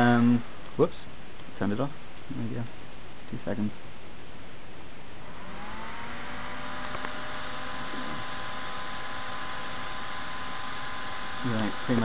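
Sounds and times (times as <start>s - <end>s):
computer cooling fan whirring: 0.0s - 12.0s.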